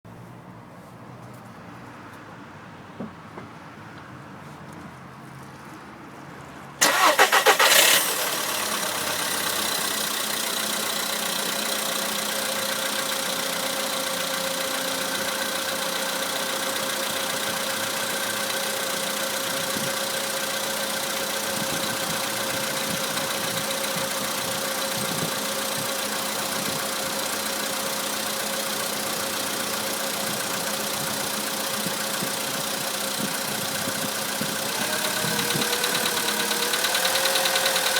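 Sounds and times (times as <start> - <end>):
car engine idling: 6.8 - 37.9
car engine starter cranking: 6.8 - 37.9.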